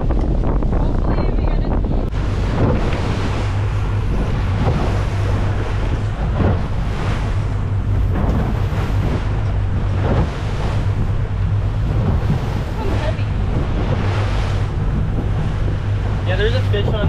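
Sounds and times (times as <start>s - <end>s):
boat wake splashing: 0.0s - 17.0s
outboard motors humming: 0.0s - 17.0s
wind buffeting microphone: 0.0s - 17.0s.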